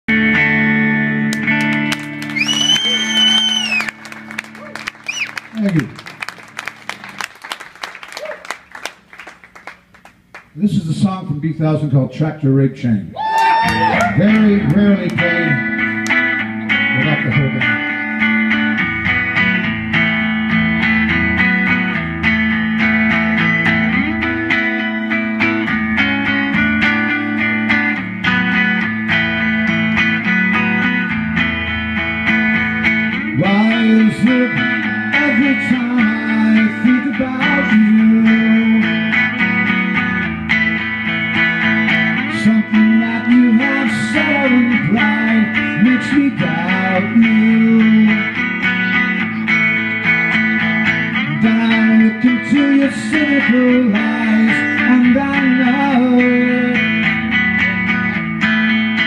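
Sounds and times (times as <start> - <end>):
solo guitar playing: 0.1 - 7.8, 13.6 - 59.0.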